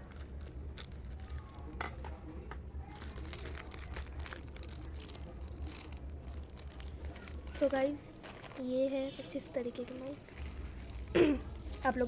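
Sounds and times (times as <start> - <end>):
plastic packet crinkling: 0.0 - 1.7, 2.8 - 12.0.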